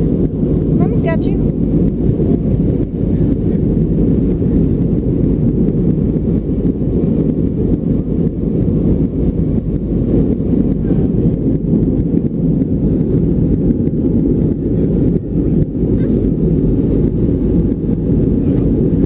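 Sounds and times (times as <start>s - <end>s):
airliner cabin roar: 0.0s - 19.0s.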